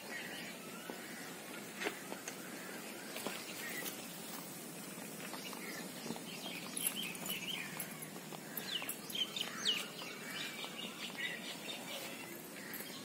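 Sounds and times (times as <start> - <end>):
background ambience: 0.0 - 13.0
birds chirping and whistling: 0.0 - 13.0.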